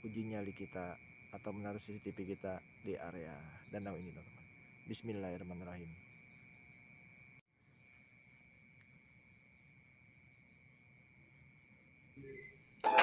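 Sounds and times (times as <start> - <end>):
high-pitched insect chirr: 0.0 - 13.0
rapid pulsing cricket trill: 0.0 - 13.0.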